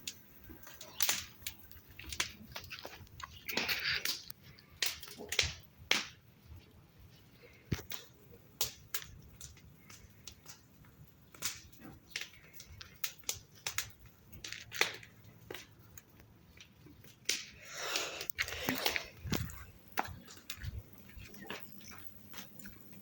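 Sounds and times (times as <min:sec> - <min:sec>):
bonfire crackling: 0:00.0 - 0:23.0.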